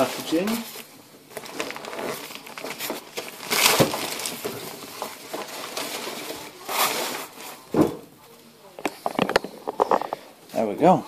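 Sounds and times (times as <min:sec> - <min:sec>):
plastic and polystyrene crackling: 0:00.0 - 0:11.0.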